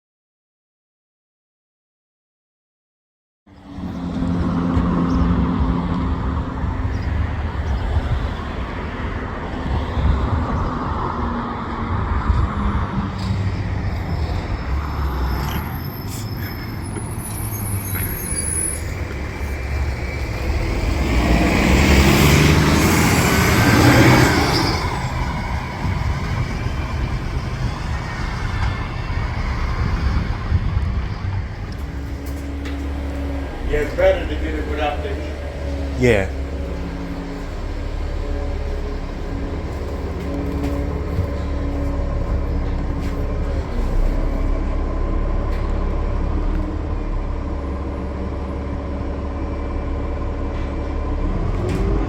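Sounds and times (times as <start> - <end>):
bus diesel engine running: 3.5 - 52.0
road noise: 3.5 - 52.0.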